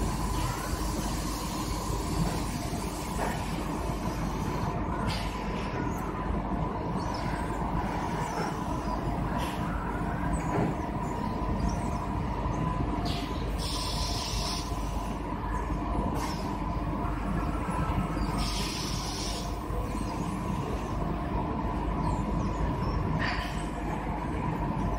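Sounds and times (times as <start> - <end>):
constant machine tones: 0.0 - 24.9
machinery humming: 0.0 - 24.9.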